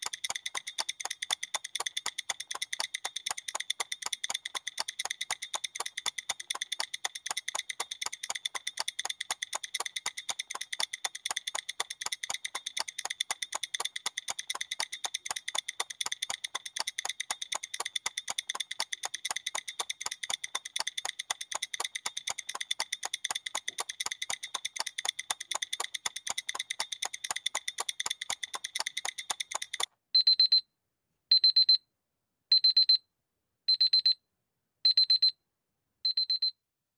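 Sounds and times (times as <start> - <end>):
countdown timer ticking rapidly: 0.0 - 30.4.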